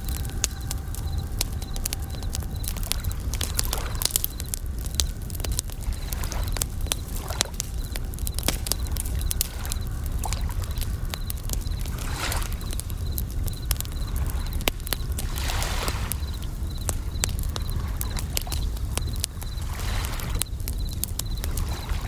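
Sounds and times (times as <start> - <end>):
campfire crackling and popping: 0.0 - 22.0
crickets chirping in trills: 0.0 - 22.0
waves washing softly: 0.0 - 22.0.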